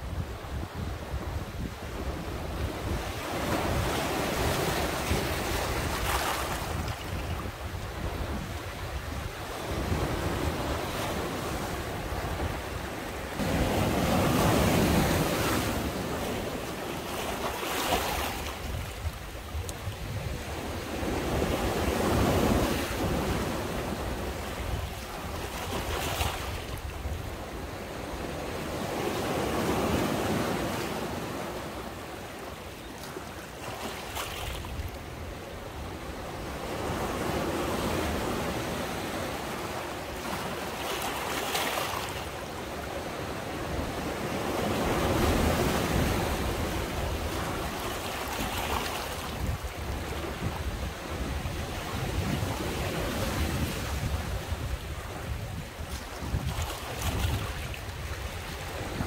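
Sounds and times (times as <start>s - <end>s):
sea waves surging and washing back: 0.0s - 59.0s.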